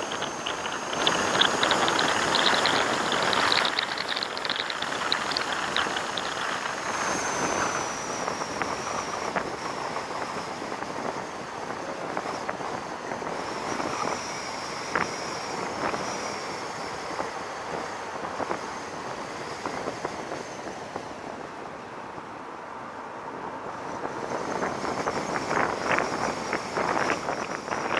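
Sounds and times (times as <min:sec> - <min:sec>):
vehicle road noise: 0:00.0 - 0:27.9
wind rushing over microphone: 0:00.0 - 0:27.9.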